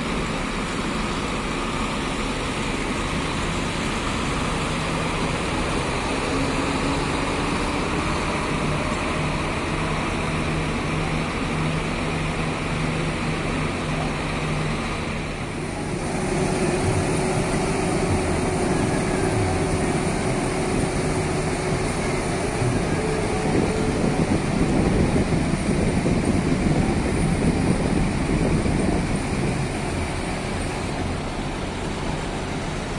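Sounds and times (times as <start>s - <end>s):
diesel bus engines running: 0.0s - 32.9s.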